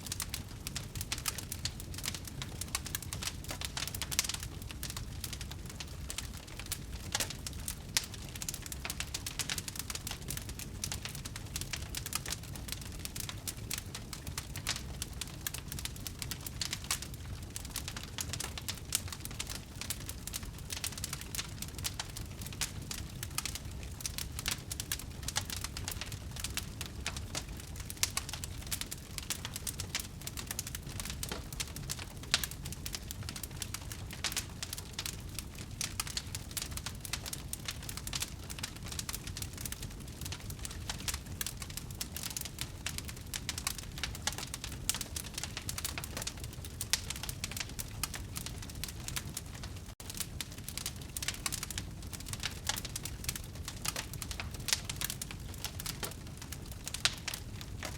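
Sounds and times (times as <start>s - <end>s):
campfire crackling: 0.0s - 57.9s
low rumble of flames: 0.0s - 57.9s.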